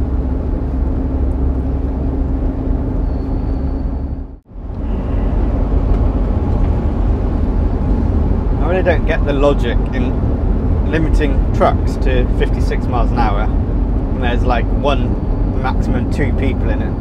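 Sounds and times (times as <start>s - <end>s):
engine drone: 0.0s - 17.0s
road rumble: 0.0s - 17.0s.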